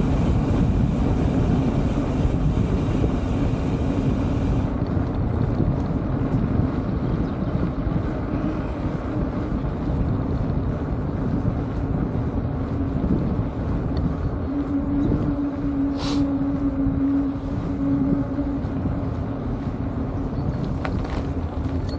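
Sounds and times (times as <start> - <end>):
steady low hum: 0.0 - 21.9
wind rushing over microphone: 0.0 - 21.9.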